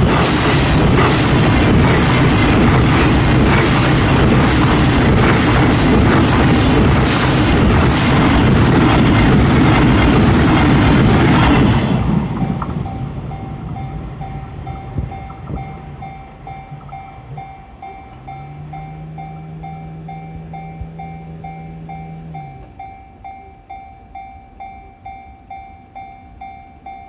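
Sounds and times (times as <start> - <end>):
crossing warning bell dinging: 0.0 - 27.0
train rumble and wheel clatter: 0.0 - 27.0.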